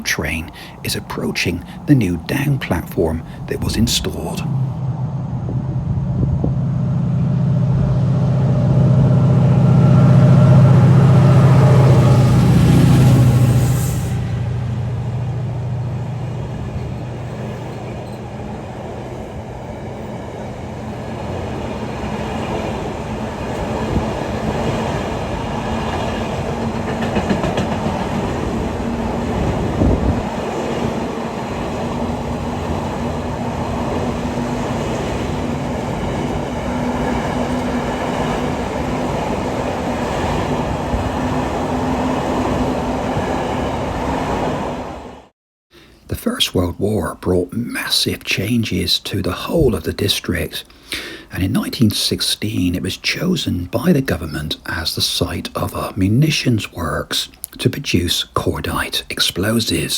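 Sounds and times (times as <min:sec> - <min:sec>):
locomotive engine hum: 0:00.0 - 0:59.9.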